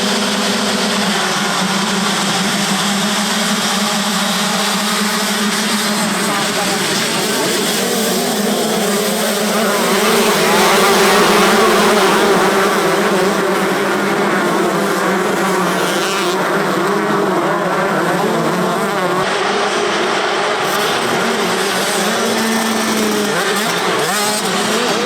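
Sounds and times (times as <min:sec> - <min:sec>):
motocross bikes revving: 0:00.0 - 0:25.0.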